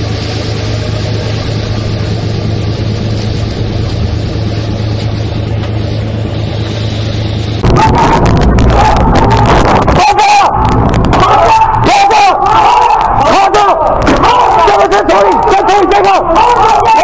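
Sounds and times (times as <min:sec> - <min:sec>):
boat engine humming: 0:00.0 - 0:17.0
water rushing: 0:00.0 - 0:17.0.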